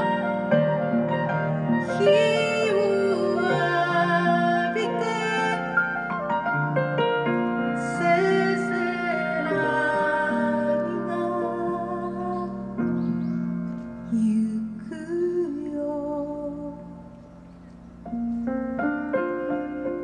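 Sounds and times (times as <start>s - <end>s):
grand piano accompaniment: 0.0s - 20.0s.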